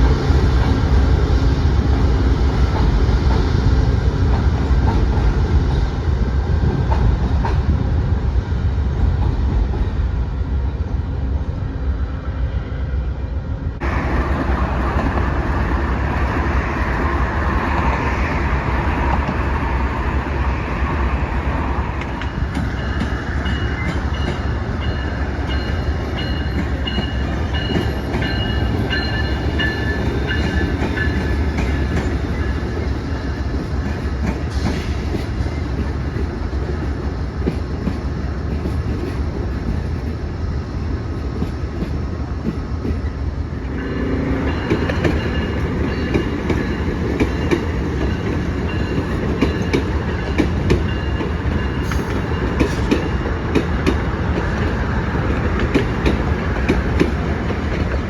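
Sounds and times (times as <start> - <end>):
train wheels clattering on rails: 0.0 - 8.1, 13.8 - 58.0.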